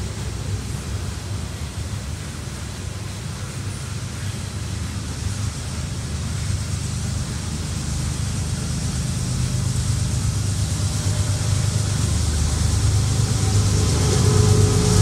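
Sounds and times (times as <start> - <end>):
diesel freight train rumble: 0.0 - 15.0.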